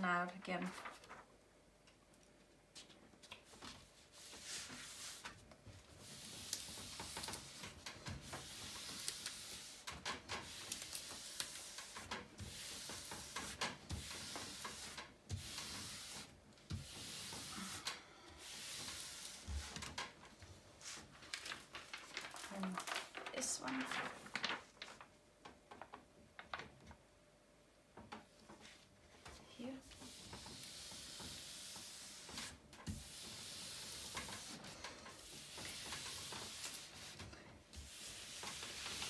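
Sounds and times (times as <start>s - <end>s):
hands rubbing plastic film: 2.8s - 25.1s, 29.9s - 39.0s.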